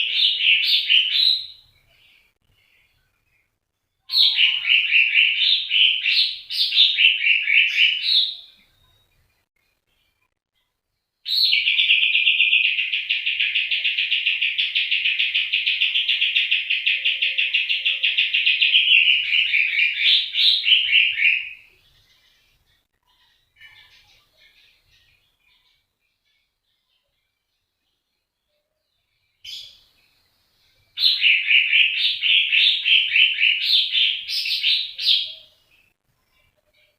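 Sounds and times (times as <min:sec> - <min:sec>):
songbird singing: 0:00.0 - 0:36.9.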